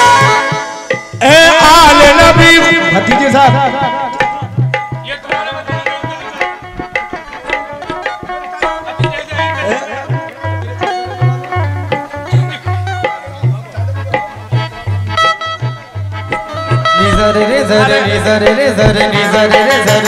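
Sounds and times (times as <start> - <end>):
hand drums playing: 0.0 - 20.0
harmonium: 0.0 - 20.0
wordless singing: 0.0 - 20.0.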